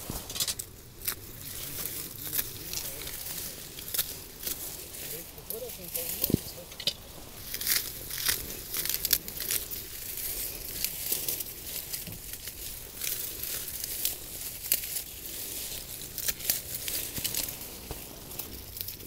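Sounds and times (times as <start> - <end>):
foliage rustling: 0.0 - 19.0
pruners snipping leaves: 0.0 - 19.0.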